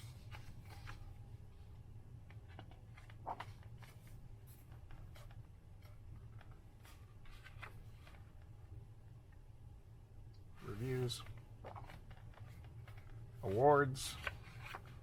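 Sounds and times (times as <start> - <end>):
book pages rustling: 0.0 - 8.6, 10.6 - 15.0.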